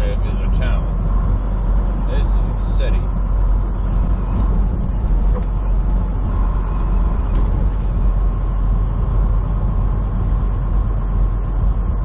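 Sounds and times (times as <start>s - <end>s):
steady whine: 0.0s - 12.0s
truck engine and road rumble: 0.0s - 12.0s.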